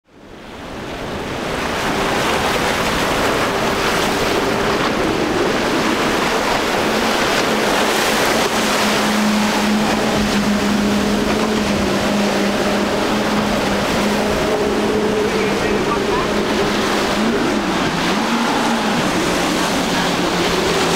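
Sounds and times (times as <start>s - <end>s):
outboard engines droning: 0.1s - 20.9s
breaking surf: 0.4s - 20.9s.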